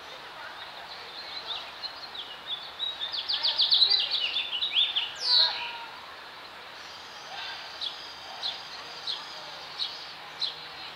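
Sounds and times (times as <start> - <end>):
background hiss: 0.0 - 10.9
small birds chirping: 0.0 - 10.9.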